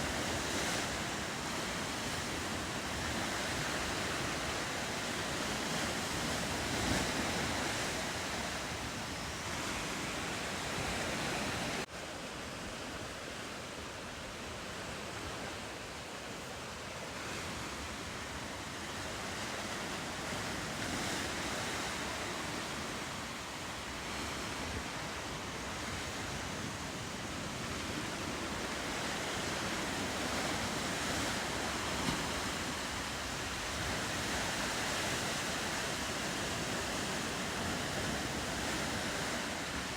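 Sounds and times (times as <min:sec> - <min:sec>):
ocean surf washing: 0:00.0 - 0:39.9
wind: 0:00.0 - 0:39.9.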